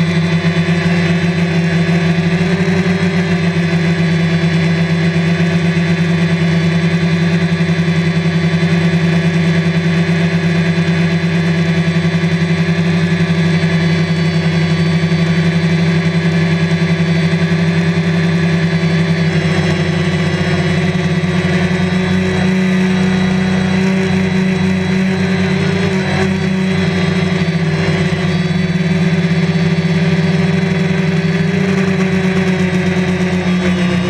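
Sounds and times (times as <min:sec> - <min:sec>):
drone propellers whirring: 0:00.0 - 0:34.0.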